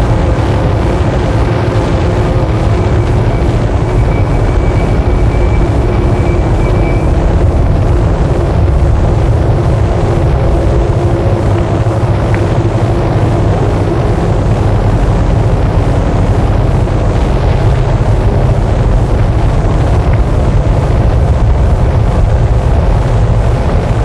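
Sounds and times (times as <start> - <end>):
dense wall of noise music: 0.0 - 24.0.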